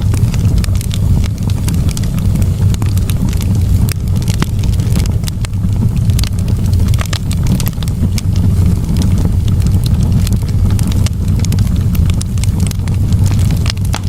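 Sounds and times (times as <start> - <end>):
campfire crackling and popping: 0.0 - 14.0
steady low rumble: 0.0 - 14.0.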